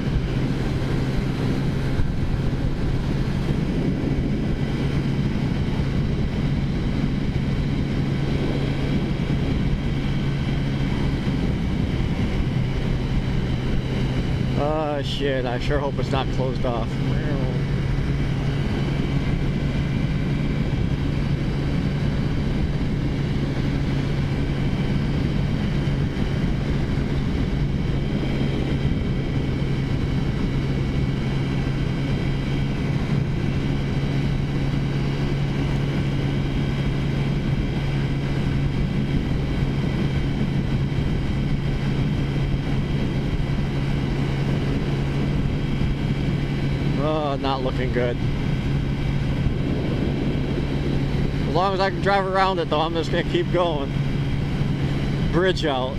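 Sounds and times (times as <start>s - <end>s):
scooter engine running: 0.0s - 55.9s
wind rumble on microphone: 0.0s - 55.9s.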